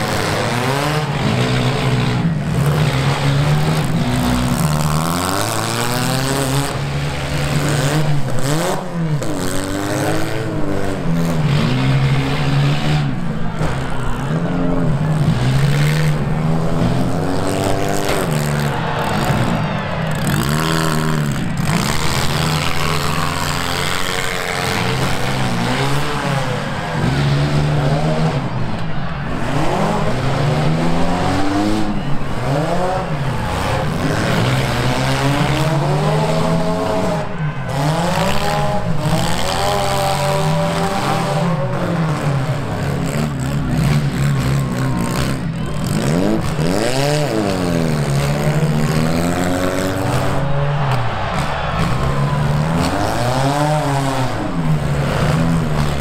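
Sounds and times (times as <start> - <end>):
car engines revving: 0.0 - 56.0
low drone of engines: 0.0 - 56.0.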